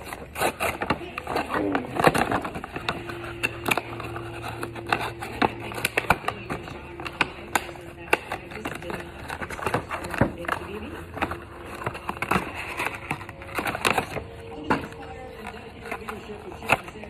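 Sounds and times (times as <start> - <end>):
cardboard box and plastic packaging handled: 0.0 - 17.0.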